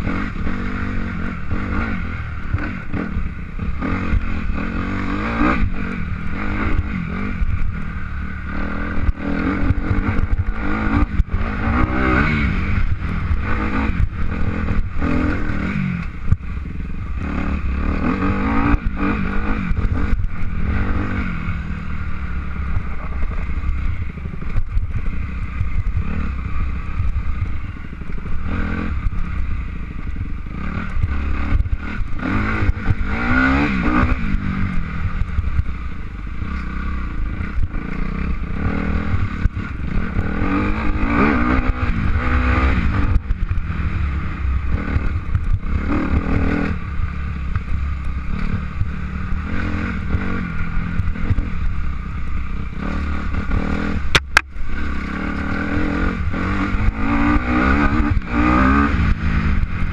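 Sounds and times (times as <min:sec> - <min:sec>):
motor engine revving: 0:00.0 - 0:59.9.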